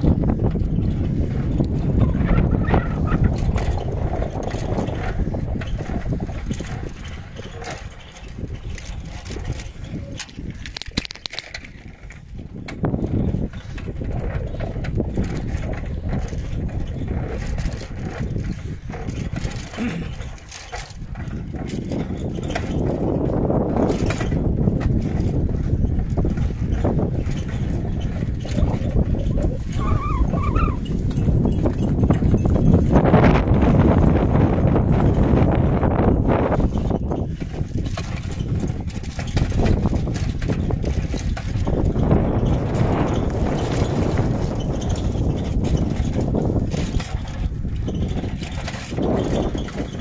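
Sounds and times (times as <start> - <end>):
bicycle clicks and rattles: 0.0 - 50.0
wind rumbling on microphone: 0.0 - 50.0.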